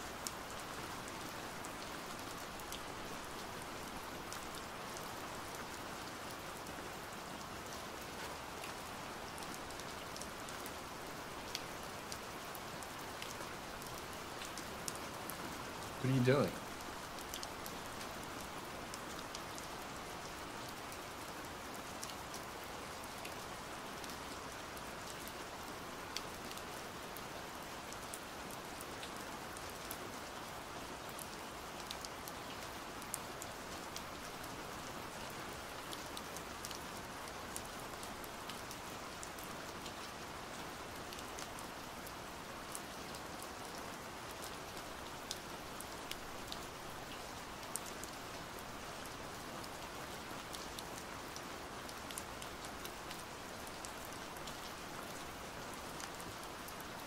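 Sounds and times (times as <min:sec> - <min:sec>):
steady pouring rain: 0:00.0 - 0:57.0.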